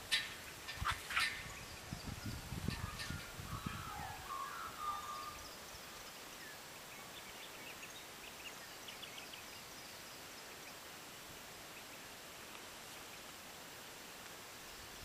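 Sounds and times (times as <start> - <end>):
distant small birds chirping: 0.0 - 15.0
faint open-air ambience: 0.0 - 15.0.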